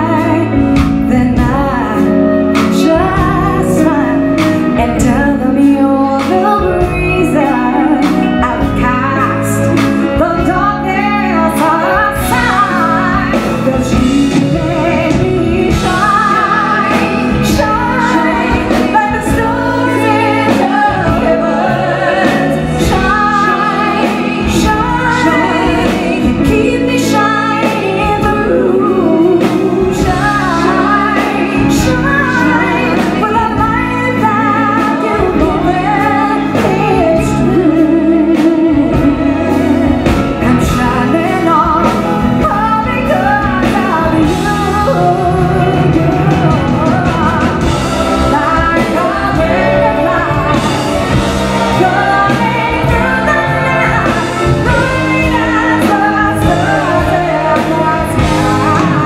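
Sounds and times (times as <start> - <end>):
band playing: 0.0 - 59.0
woman singing pop song: 0.0 - 59.0.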